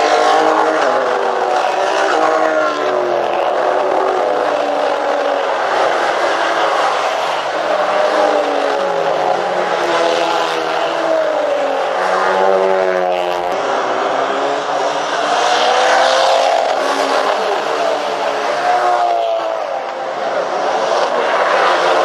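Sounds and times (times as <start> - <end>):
race car engines passing: 0.0 - 22.0.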